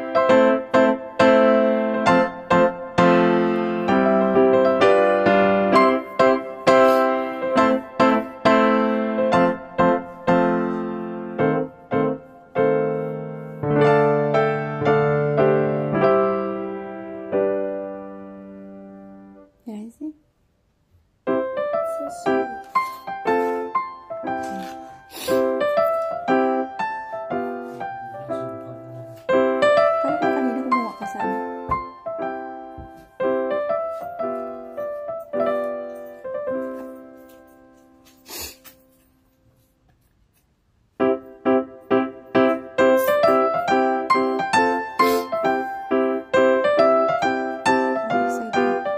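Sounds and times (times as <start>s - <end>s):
slow piano music: 0.0s - 19.7s, 20.9s - 48.9s.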